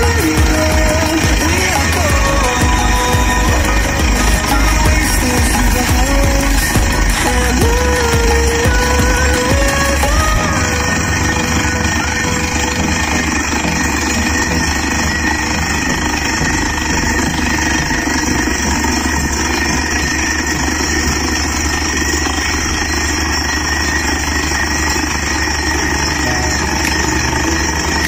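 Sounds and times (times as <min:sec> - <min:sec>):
drilling rig engine and compressor: 0:00.0 - 0:28.0.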